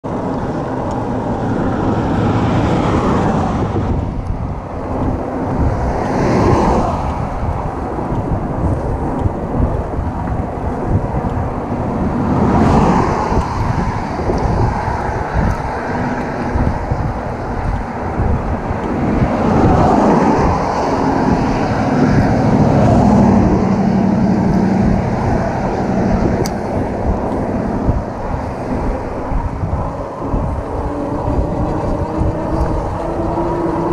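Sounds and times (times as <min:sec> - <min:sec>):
road and tyre rumble: 0:00.0 - 0:33.9
vehicles passing: 0:00.0 - 0:33.9
wind rushing over microphone: 0:00.0 - 0:33.9.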